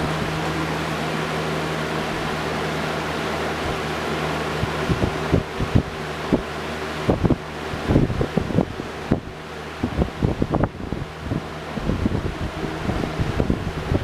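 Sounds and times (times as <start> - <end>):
box fan running: 0.0 - 14.0.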